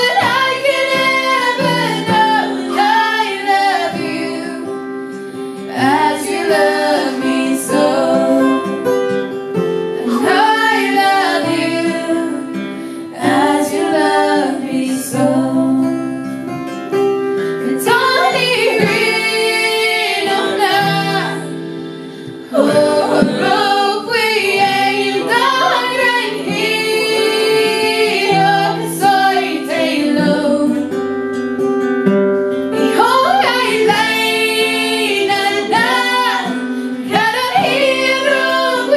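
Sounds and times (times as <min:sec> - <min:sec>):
women singing a gospel song: 0:00.0 - 0:09.0, 0:10.0 - 0:16.4, 0:17.4 - 0:31.0, 0:32.8 - 0:38.9
acoustic guitar: 0:00.0 - 0:38.9.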